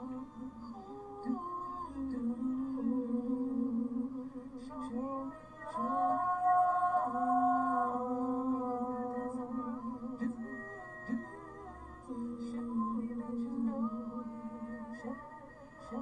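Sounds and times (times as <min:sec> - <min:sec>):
person singing wordless melody: 0:00.0 - 0:16.0.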